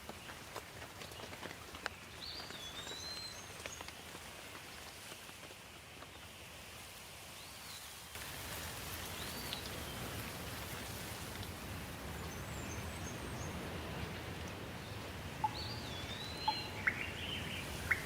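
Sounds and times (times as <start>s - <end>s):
raindrops ticking close by: 0.0s - 6.7s, 8.2s - 18.0s
steady rain: 0.0s - 18.0s.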